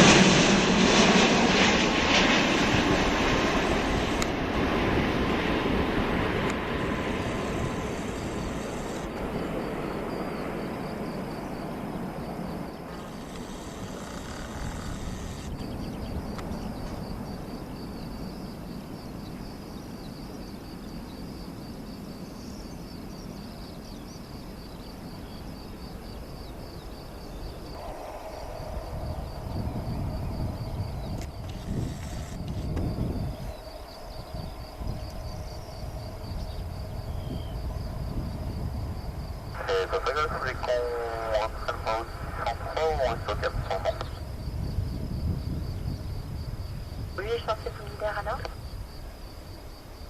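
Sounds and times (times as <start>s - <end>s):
insect chirping: 0.0s - 50.0s
jet engine noise: 0.0s - 50.0s.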